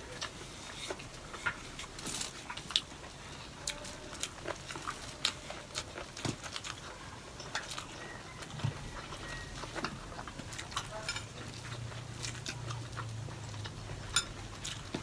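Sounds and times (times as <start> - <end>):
chewing and mouth noises: 0.0 - 15.0.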